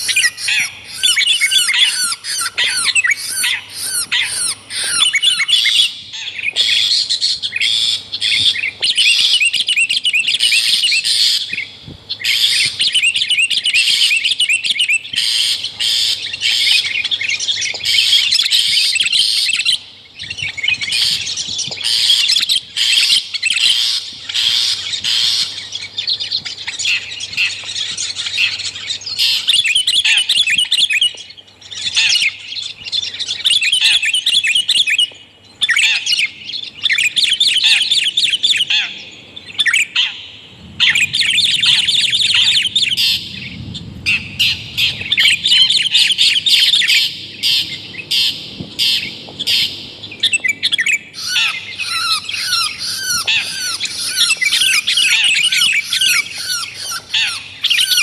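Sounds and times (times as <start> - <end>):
birds chattering and chirping: 0.0 - 58.0.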